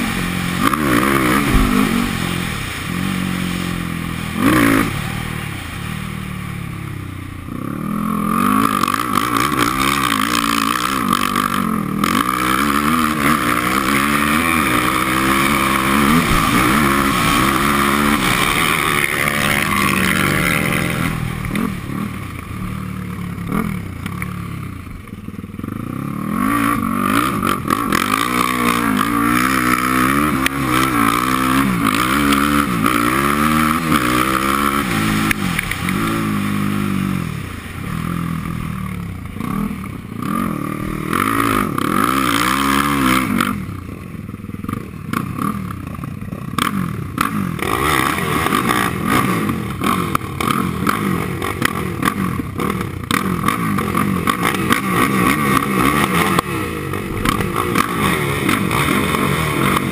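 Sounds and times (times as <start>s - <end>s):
quad bike engine revving: 0.0s - 59.9s.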